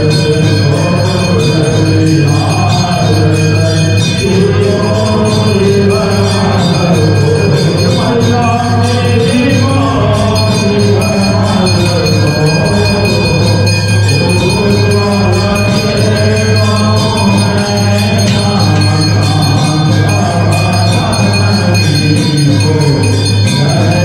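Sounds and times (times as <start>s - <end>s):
bells ringing: 0.0s - 24.0s
man singing through loudspeaker: 0.0s - 24.0s.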